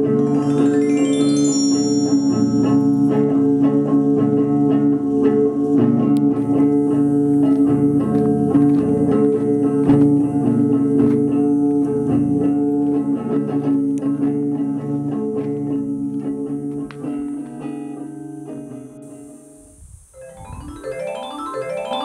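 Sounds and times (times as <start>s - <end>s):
plucked guitar music: 0.0s - 19.7s.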